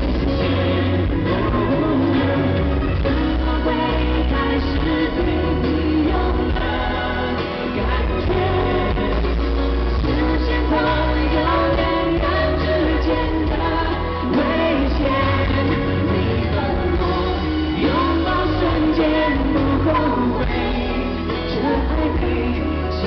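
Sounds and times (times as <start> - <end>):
live pop band: 0.0 - 23.0
man and woman singing: 0.0 - 23.0.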